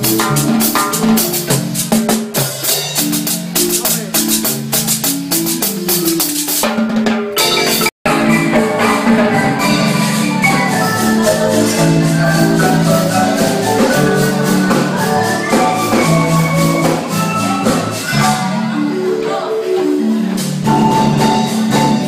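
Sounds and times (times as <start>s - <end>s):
marimba playing lively tune: 0.0s - 22.0s.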